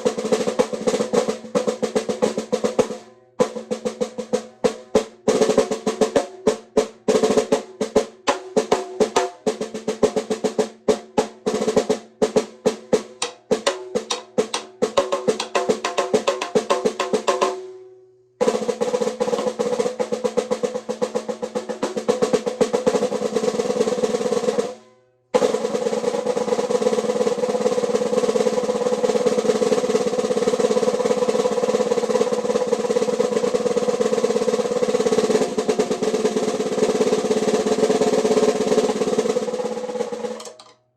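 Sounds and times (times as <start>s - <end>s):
snare drum strokes and rolls: 0.0s - 17.8s, 18.4s - 24.8s, 25.4s - 40.7s.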